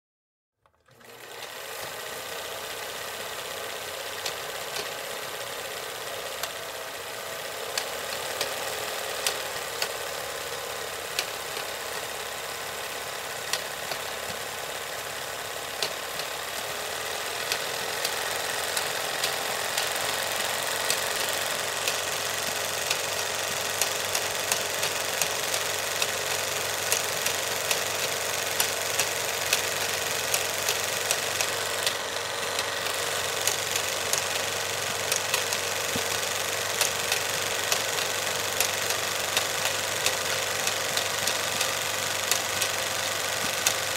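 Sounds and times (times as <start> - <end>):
film projector whirring: 0.6 - 43.9
projector sharp ticks: 1.3 - 43.9.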